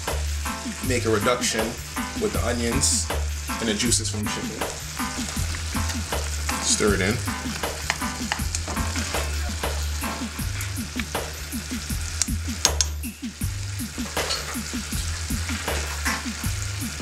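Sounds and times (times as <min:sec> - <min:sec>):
chicken sizzling in a pan: 0:00.0 - 0:17.0
steady low hum: 0:00.0 - 0:17.0
utensil scraping a pan: 0:00.7 - 0:11.5, 0:13.8 - 0:17.0.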